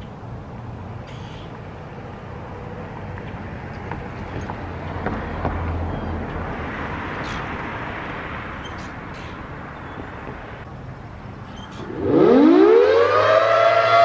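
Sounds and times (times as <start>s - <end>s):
vehicle passing: 0.6s - 14.0s.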